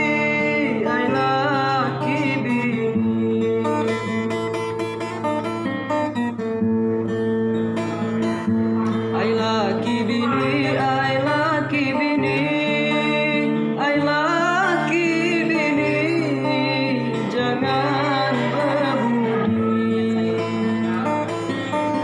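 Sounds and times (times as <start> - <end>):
person singing with vibrato: 0.0 - 5.3, 8.8 - 22.0
guitar chords: 0.0 - 22.0.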